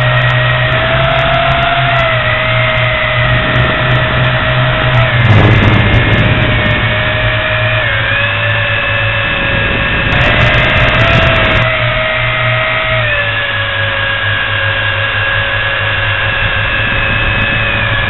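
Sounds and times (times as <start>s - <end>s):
drone propellers whining: 0.0s - 18.0s
rush of noise: 0.0s - 18.0s.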